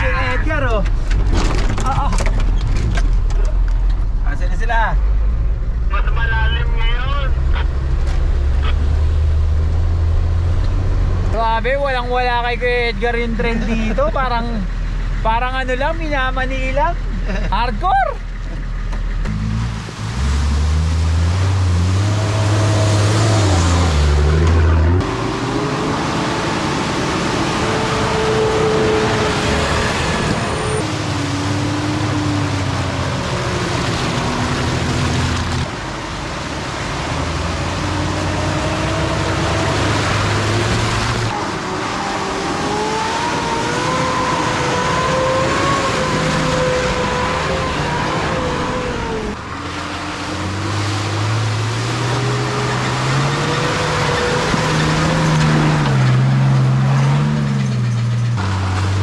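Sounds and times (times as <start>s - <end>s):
off-road engines revving: 0.0s - 59.0s.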